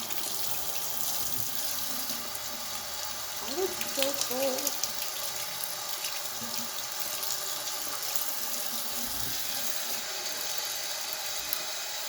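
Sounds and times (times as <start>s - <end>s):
water running from tap into basin: 0.0s - 12.0s.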